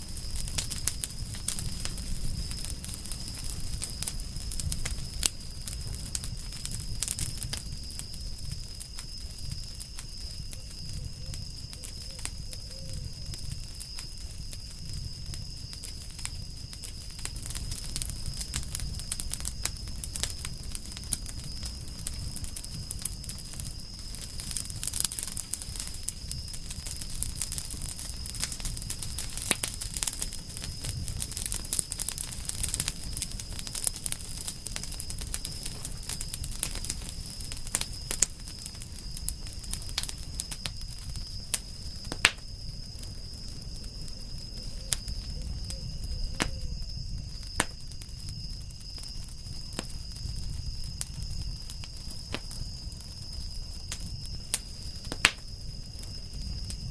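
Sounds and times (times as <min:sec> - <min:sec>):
campfire crackling: 0:00.0 - 0:56.9
sharp pops of fire: 0:00.0 - 0:56.9.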